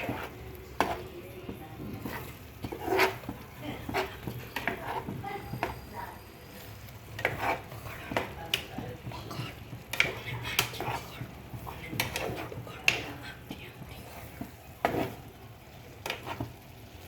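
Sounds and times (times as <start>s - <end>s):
spoon scraping and clinking in pan: 0.0s - 13.3s, 13.9s - 15.3s, 15.9s - 16.6s.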